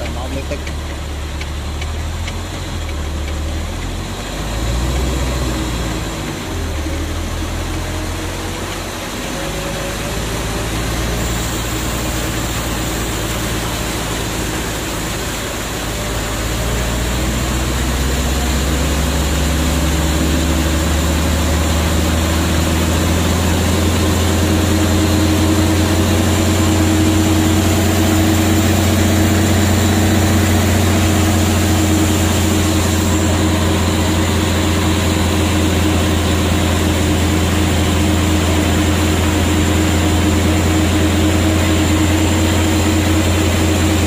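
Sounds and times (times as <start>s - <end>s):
floodwater rushing: 0.0s - 44.0s
motorboat engine: 0.0s - 44.0s.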